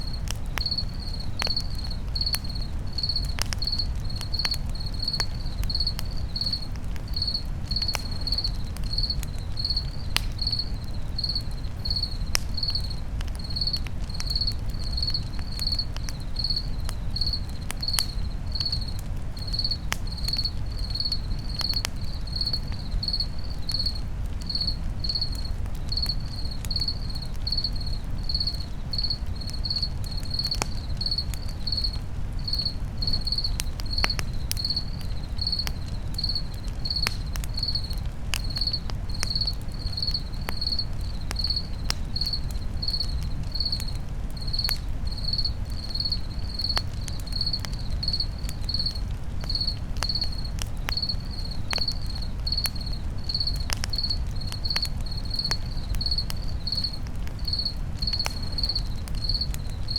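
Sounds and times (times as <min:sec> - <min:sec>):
campfire crackling and popping: 0:00.0 - 0:59.9
cricket chirping: 0:00.0 - 0:59.9.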